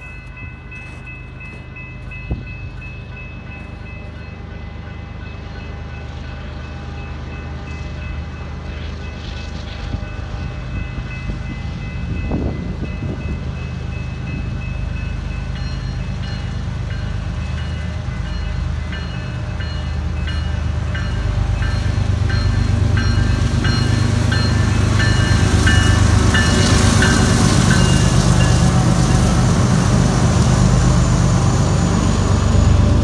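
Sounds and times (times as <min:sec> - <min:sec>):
crossing signal bells ringing: 0:00.0 - 0:33.0
freight train locomotives rumbling: 0:00.0 - 0:33.0.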